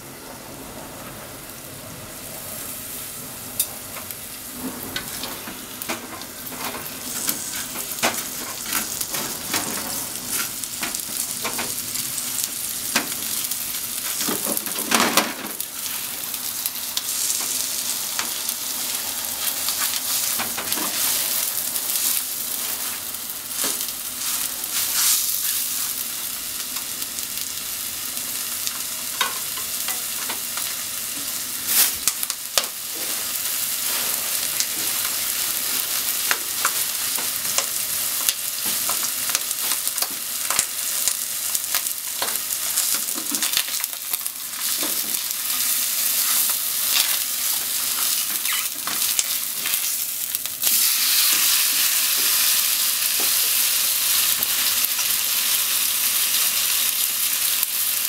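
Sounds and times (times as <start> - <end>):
meat sizzling in frying pan: 2.6 - 58.0.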